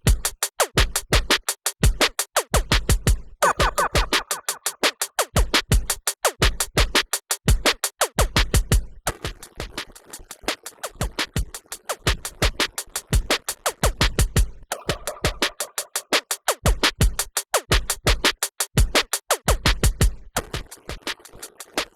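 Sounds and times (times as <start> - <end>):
drum-machine beat: 0.0 - 21.9.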